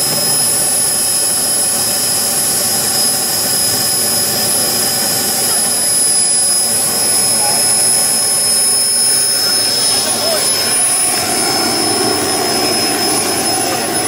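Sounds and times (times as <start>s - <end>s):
model jet engine idling: 0.0s - 14.0s.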